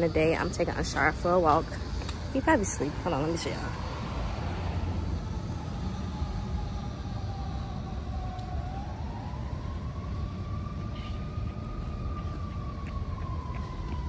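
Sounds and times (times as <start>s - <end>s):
emergency siren wailing: 0.0s - 14.0s.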